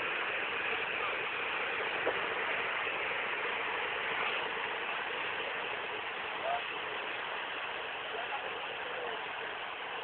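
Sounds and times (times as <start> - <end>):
wind: 0.0 - 10.0.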